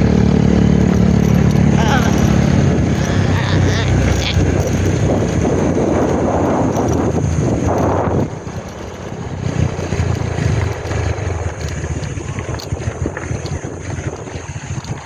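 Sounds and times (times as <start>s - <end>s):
vehicle engine humming: 0.0s - 15.0s
wind buffeting microphone: 0.0s - 15.0s.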